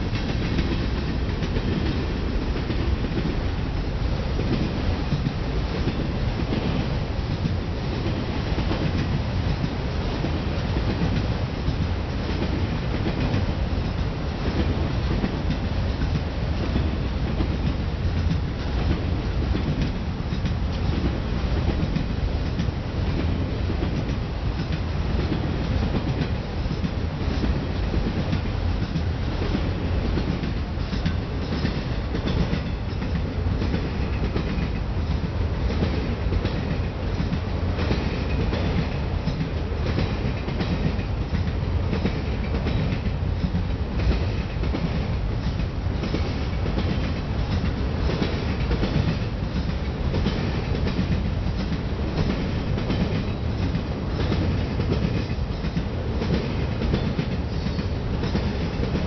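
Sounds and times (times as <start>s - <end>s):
freight train rumble: 0.0s - 59.0s
wheels clacking over rail joints: 4.4s - 59.0s.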